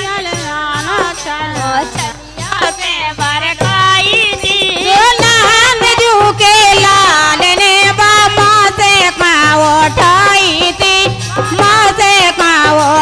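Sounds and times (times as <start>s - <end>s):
light percussion: 0.0s - 13.0s
women singing folk song: 0.0s - 13.0s.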